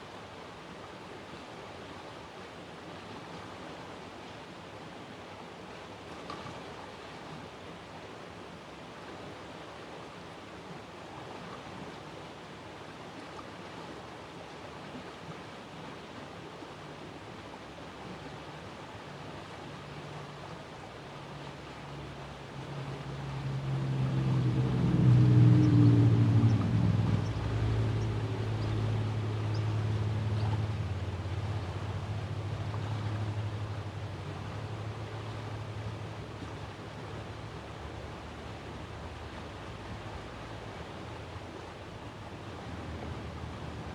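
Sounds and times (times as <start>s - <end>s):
outdoor background noise: 0.0s - 43.9s.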